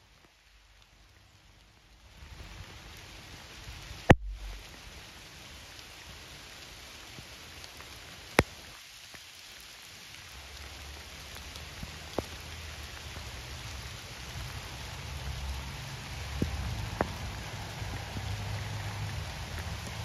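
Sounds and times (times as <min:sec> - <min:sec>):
rain falling steadily: 0:00.0 - 0:20.0.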